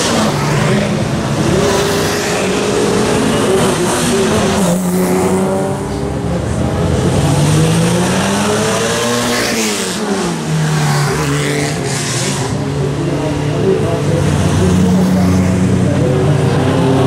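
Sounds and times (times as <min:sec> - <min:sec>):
racing cars driving past revving: 0:00.0 - 0:17.0.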